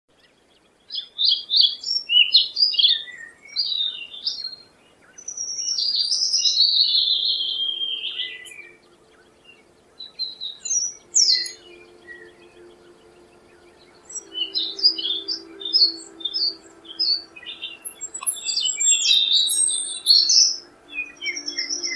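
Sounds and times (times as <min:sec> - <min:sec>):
songbird singing: 0:00.1 - 0:21.9.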